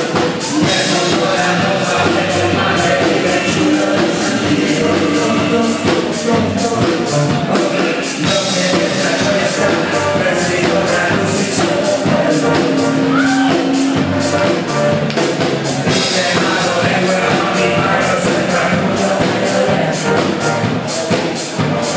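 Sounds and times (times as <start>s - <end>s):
band music with singing: 0.0s - 21.9s
drum kit steady beat: 0.0s - 21.9s.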